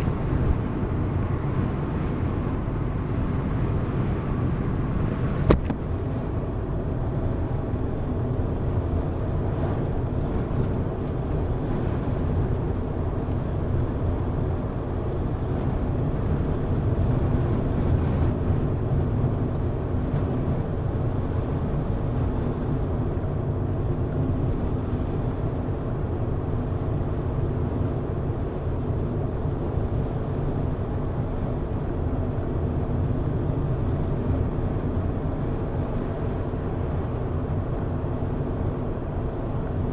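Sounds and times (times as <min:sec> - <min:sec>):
car engine and tyre road noise: 0:00.0 - 0:39.9.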